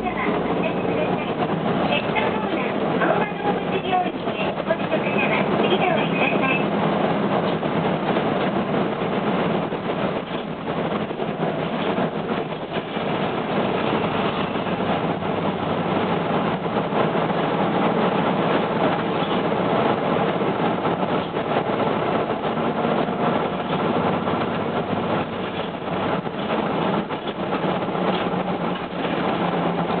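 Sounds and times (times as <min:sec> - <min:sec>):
bus diesel engine: 0:00.0 - 0:30.0.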